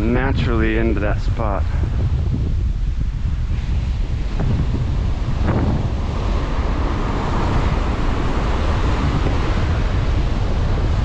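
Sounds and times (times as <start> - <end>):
wind buffeting microphone: 0.0 - 11.0
ocean surf breaking on beach: 0.6 - 11.0.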